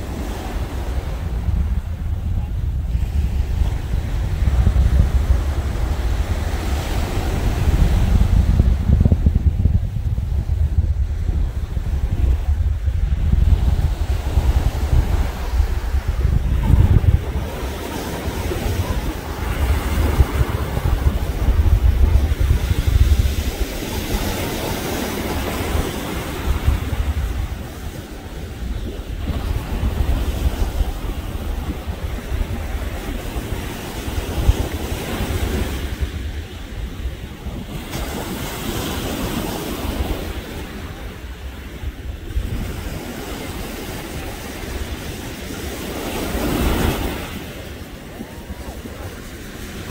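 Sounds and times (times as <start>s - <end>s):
surf: 0.0s - 49.9s
wind on microphone: 0.0s - 49.9s.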